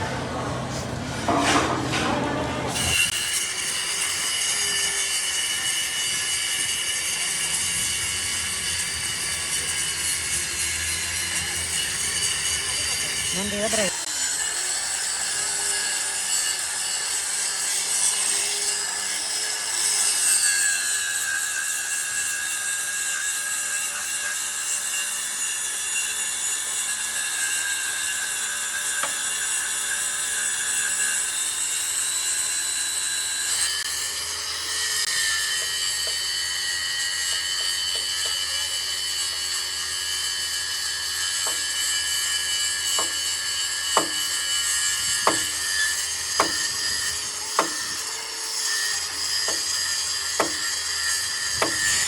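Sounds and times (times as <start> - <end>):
power tool whirring: 2.6 - 52.0.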